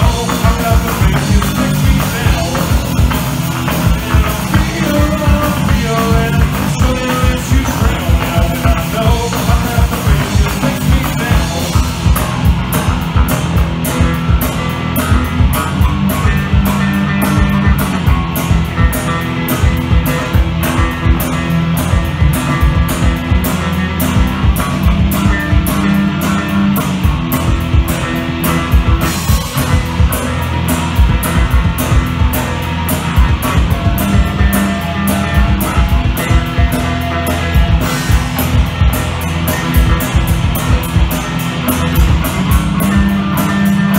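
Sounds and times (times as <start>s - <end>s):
punk rock band playing: 0.0s - 43.9s.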